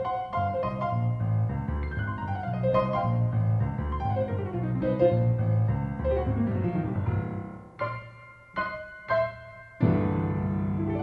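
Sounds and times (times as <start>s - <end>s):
solo piano: 0.0s - 11.0s.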